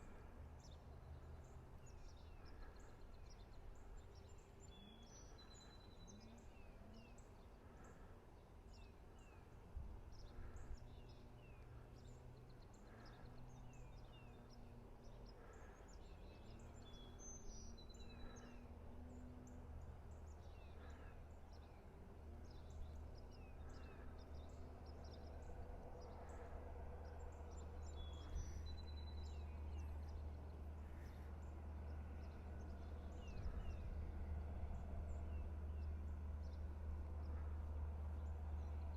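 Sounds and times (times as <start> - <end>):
low steady rumble: 0.0 - 38.9
songbirds chirping: 0.0 - 38.9.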